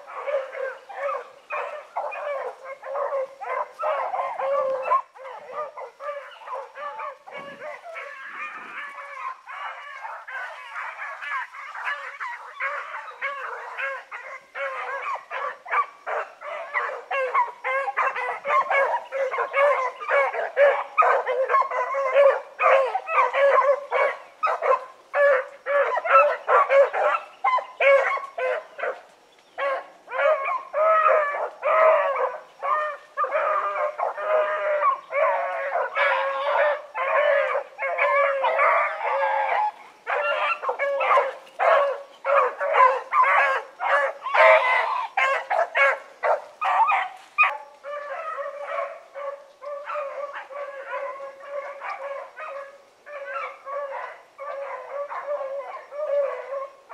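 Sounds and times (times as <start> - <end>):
dogs baying and barking: 0.0 - 56.9.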